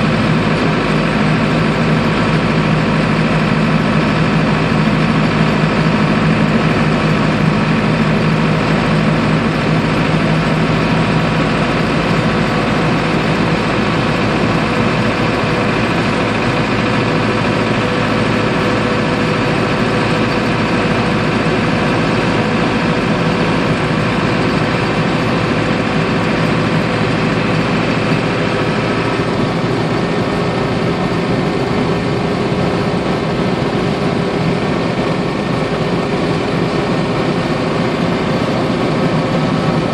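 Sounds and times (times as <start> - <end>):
diesel engine droning: 0.0 - 39.9
road and drivetrain noise: 0.0 - 39.9.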